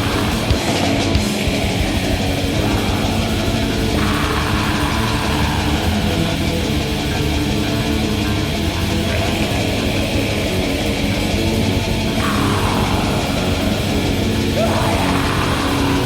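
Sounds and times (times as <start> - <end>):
distorted guitars playing: 0.0 - 16.0.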